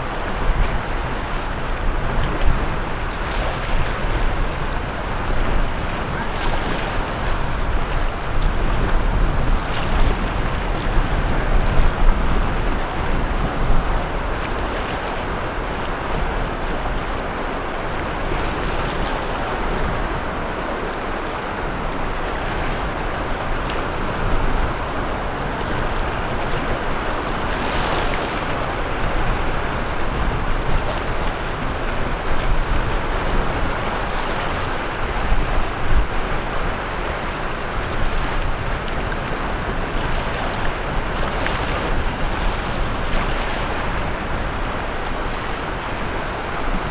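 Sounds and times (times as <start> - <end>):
ocean waves breaking on beach: 0.0 - 46.9.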